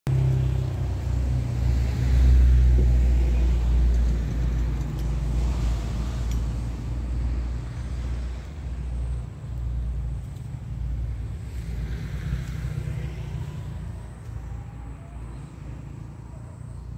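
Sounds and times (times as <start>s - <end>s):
motor vehicle engine rumble: 0.1s - 16.9s.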